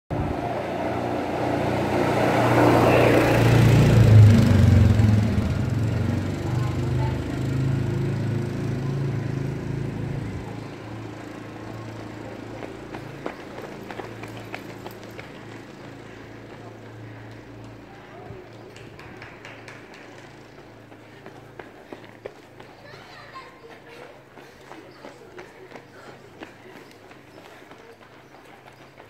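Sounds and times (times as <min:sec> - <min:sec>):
quad bike engine passing: 0:00.1 - 0:29.0.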